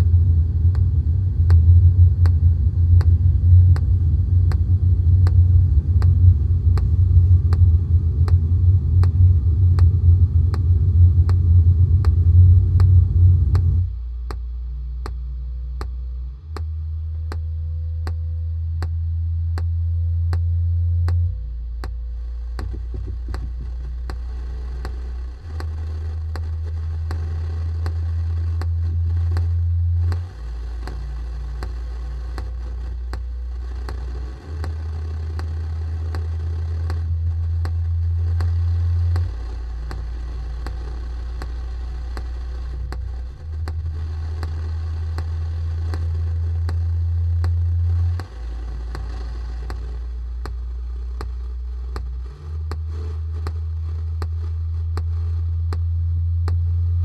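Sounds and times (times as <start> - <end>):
bass drone switching pitch: 0.0 - 57.0
heavy low rumble: 0.0 - 57.0
ticking pulse: 0.0 - 57.0.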